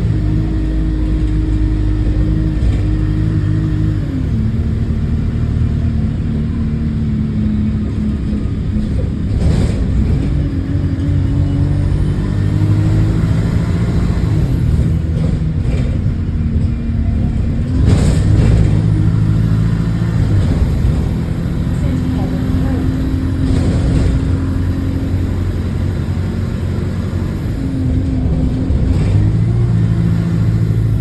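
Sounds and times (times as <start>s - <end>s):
bus diesel engine under load: 0.0s - 31.0s.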